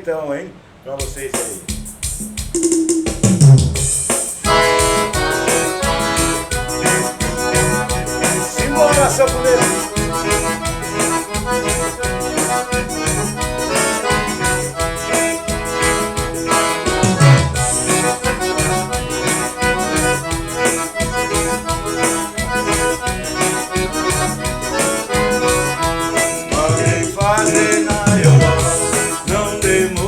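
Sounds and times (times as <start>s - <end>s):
percussion beat: 1.0s - 30.0s
accordion melody: 3.9s - 30.0s.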